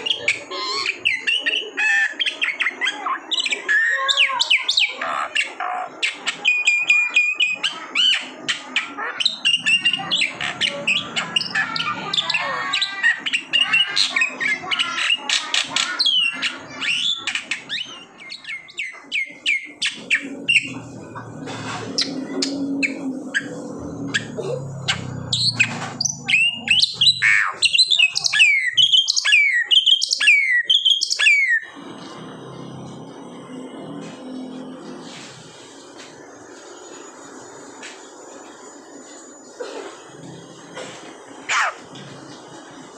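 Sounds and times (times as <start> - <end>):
starling singing: 0.0 - 33.8, 41.3 - 42.9.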